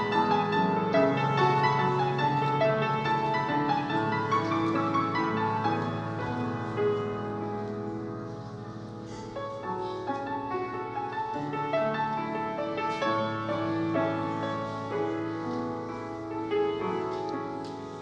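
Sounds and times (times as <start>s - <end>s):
slow grand piano piece: 0.0s - 18.0s.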